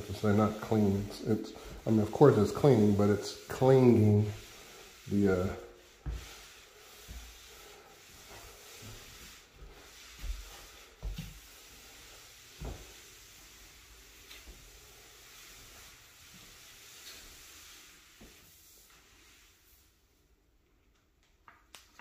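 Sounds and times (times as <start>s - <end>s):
mop swishing on hard floor: 0.0s - 20.2s.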